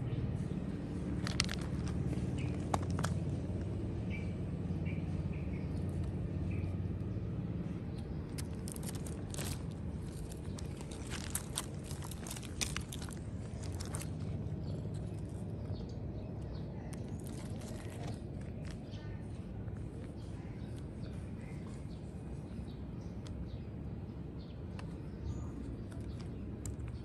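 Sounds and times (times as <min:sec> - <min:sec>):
steady low hum: 0:00.0 - 0:27.0
gravel crunching under a cat: 0:00.2 - 0:27.0.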